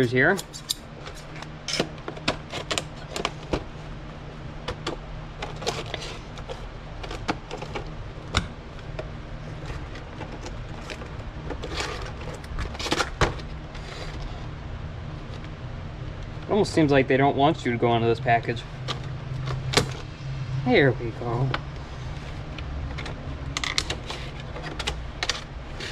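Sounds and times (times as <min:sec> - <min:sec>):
low fan hum: 0:00.0 - 0:25.9.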